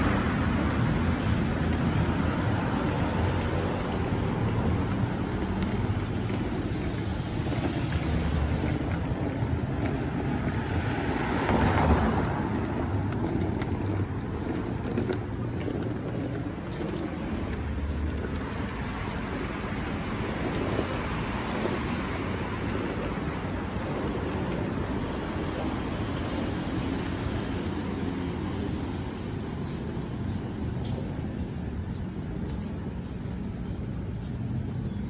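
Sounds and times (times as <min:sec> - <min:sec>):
street traffic: 0:00.0 - 0:35.0
vehicle passing: 0:00.0 - 0:35.0.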